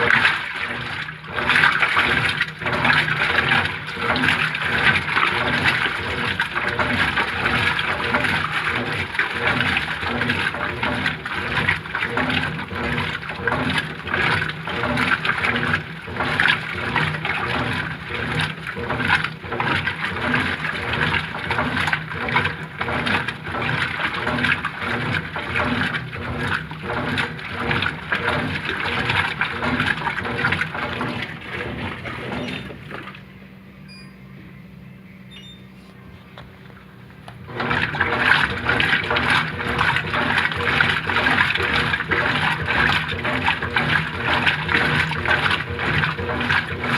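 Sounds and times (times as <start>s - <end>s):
washing machine churning water: 0.0s - 34.3s, 35.3s - 46.9s
washing machine hum: 0.0s - 46.9s.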